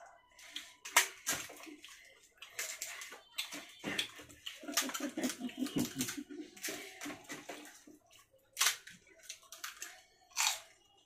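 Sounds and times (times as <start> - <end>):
wet crunchy eating: 0.4 - 7.8, 8.6 - 10.8.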